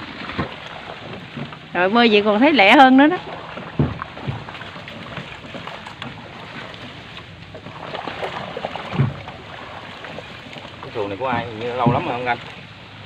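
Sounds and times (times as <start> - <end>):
leaves rustling against boat hull: 0.0 - 13.0
low bump of boat: 0.0 - 13.0.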